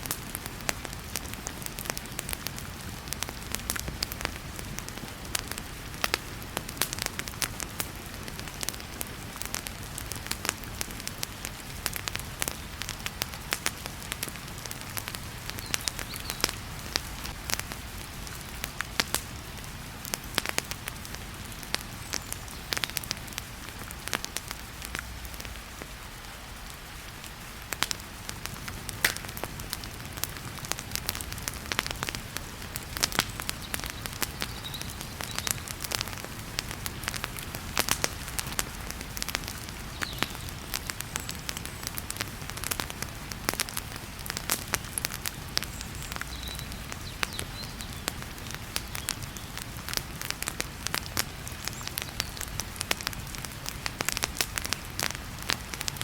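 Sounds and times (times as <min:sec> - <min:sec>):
heavy rain: 0:00.0 - 0:56.0
wood fire crackling and popping: 0:00.0 - 0:56.0.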